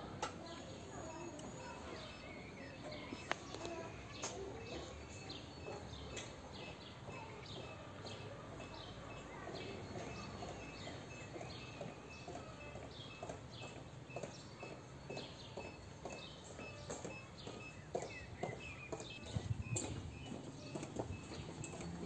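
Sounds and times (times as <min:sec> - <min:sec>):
outdoor background noise: 0:00.0 - 0:22.0
small birds chirping: 0:00.2 - 0:22.0.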